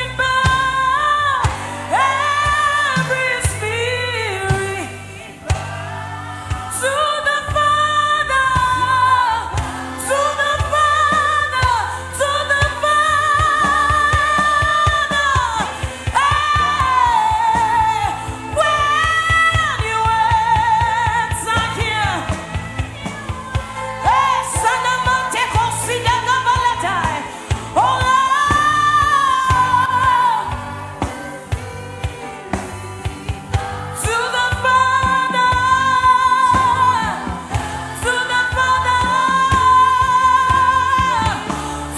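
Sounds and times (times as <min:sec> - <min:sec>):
low instrumental backing: 0:00.0 - 0:41.9
person singing with vibrato: 0:00.0 - 0:41.9.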